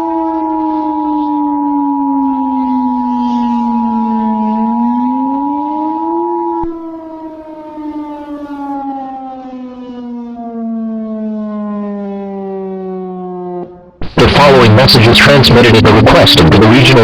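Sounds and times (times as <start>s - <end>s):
siren wail: 0.0s - 17.0s.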